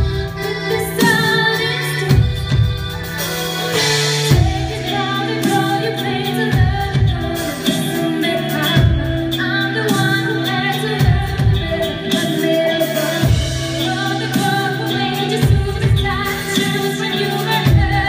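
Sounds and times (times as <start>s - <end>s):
live pop band playing: 0.0s - 18.0s
woman singing: 0.0s - 18.0s.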